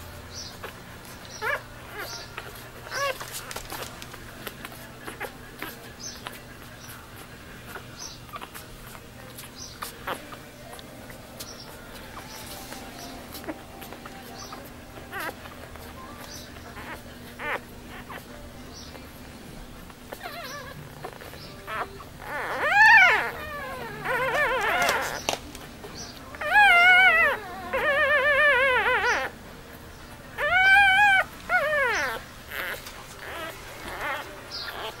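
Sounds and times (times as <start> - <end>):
puppies whining and squealing: 0.0 - 35.0.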